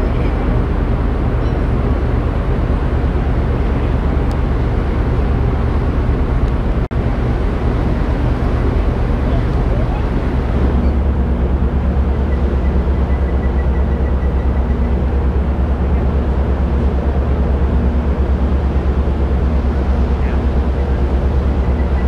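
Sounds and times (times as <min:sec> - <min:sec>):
ship engines droning: 0:00.0 - 0:22.0.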